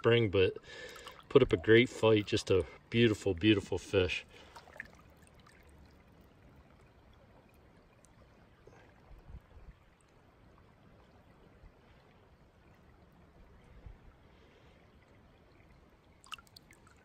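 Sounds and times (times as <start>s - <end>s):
creek water running: 0.0s - 17.0s
soft water splashes: 0.1s - 17.0s.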